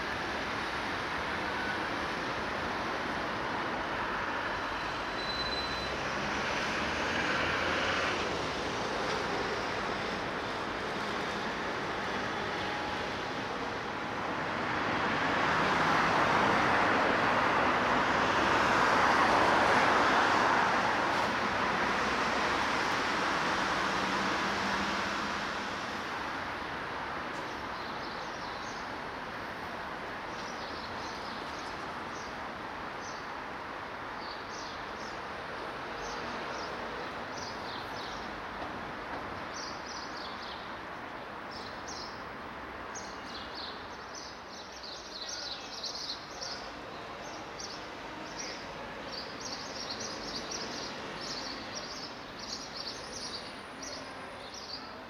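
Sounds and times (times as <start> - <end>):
rushing outdoor background noise: 0.0 - 55.0.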